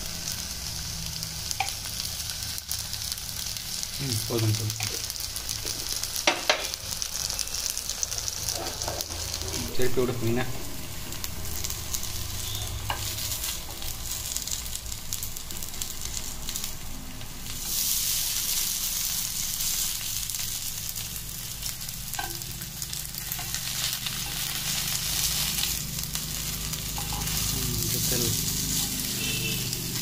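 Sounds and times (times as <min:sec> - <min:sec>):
fish sizzling in oil: 0:00.0 - 0:30.0.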